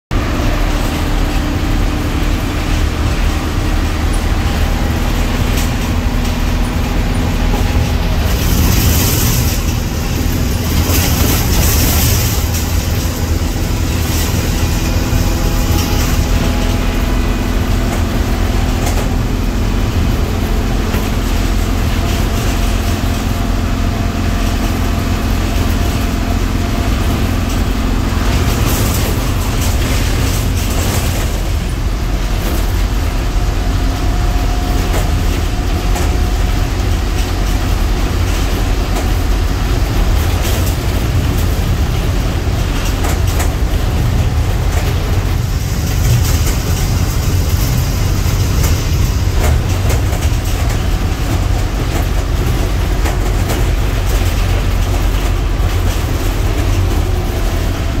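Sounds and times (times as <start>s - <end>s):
truck engine and road drone: 0.0s - 58.0s.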